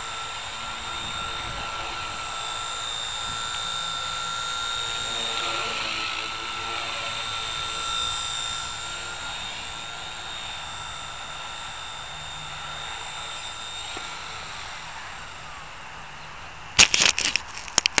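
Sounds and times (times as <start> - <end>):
rc helicopter rotor whine: 0.0 - 18.0.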